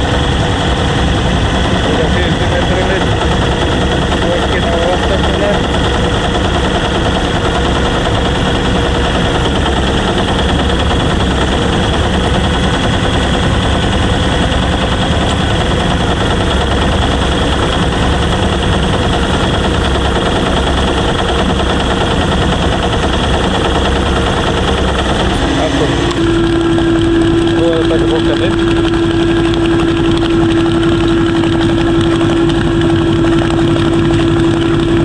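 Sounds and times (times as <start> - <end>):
boat engine and winches running: 0.0 - 35.0.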